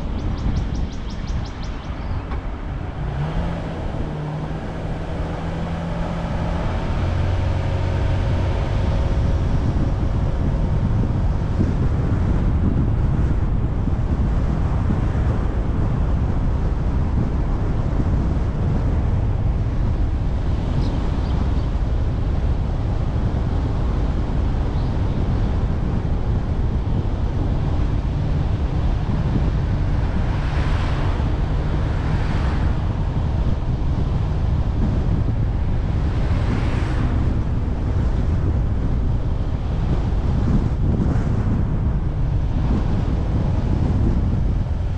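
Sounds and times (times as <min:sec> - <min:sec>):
road noise: 0:00.0 - 0:44.9
wind buffeting microphone: 0:00.0 - 0:44.9.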